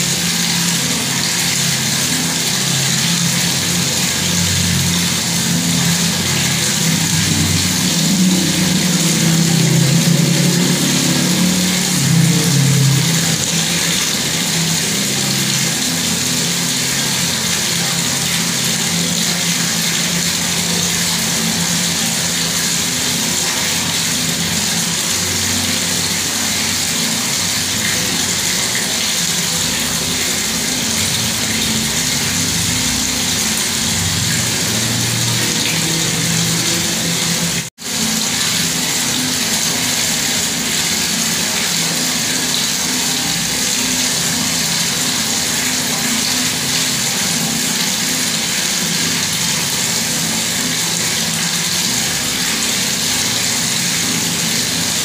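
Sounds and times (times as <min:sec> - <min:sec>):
tap water pouring: 0:00.0 - 0:55.0.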